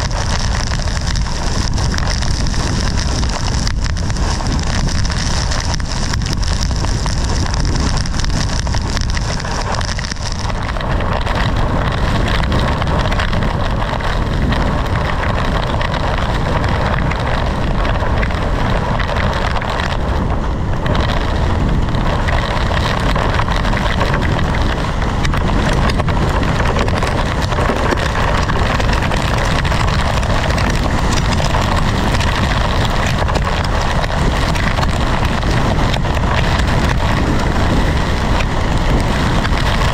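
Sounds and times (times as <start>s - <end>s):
hail and rain pelting a vehicle: 0.0s - 39.9s
wind noise on microphone: 0.0s - 39.9s.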